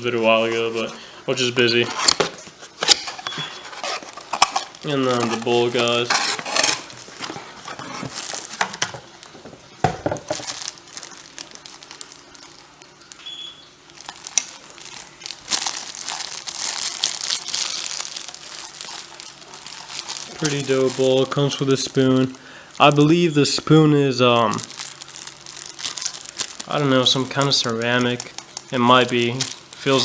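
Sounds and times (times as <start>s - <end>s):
packaging crinkling and rustling: 0.0s - 30.0s.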